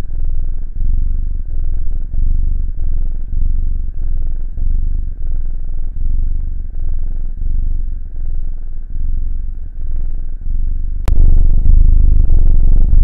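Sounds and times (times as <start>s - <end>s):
kitten purring: 0.0s - 13.0s.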